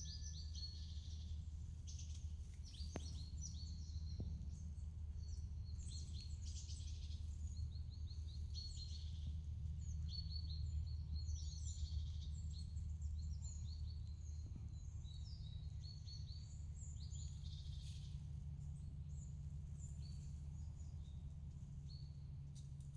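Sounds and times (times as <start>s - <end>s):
small birds chirping and twittering: 0.0s - 22.9s
steady low rumble: 0.0s - 22.9s.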